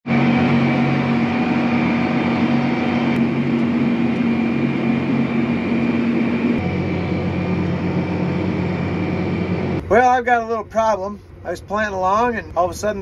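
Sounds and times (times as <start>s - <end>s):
thin high whine: 0.1s - 11.6s
tractor engine hum: 0.1s - 13.0s.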